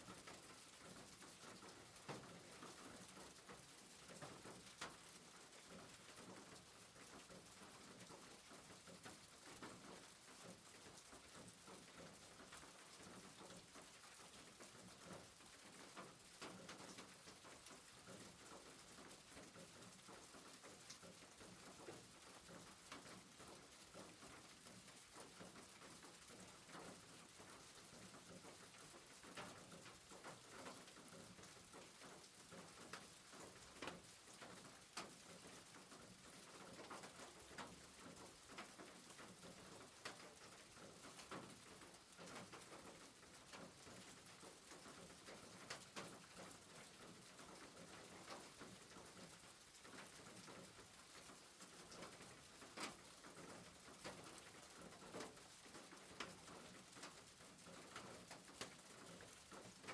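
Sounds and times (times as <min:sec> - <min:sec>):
rain pattering on a rooftop: 0:00.0 - 0:59.9.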